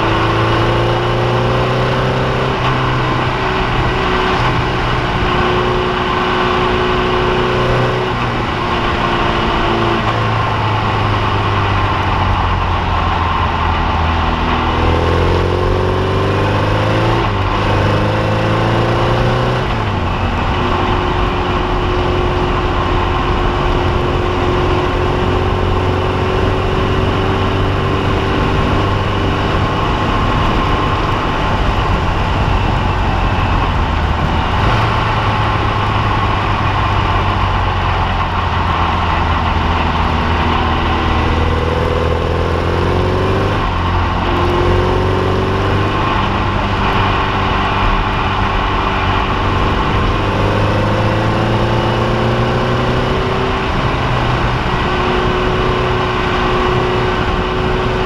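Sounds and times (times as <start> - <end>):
race car engine revving: 0.0 - 58.0
wind noise: 0.0 - 58.0.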